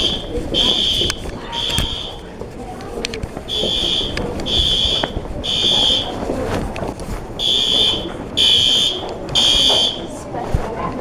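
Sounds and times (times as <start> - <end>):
fire alarm horns blaring: 0.0 - 2.5, 3.4 - 10.3.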